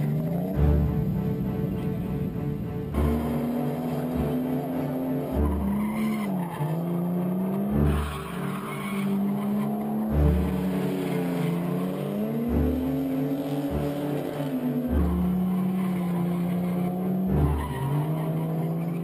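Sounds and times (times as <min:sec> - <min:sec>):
car engine revving hard: 0:02.9 - 0:19.0
tyres squealing: 0:03.1 - 0:19.0.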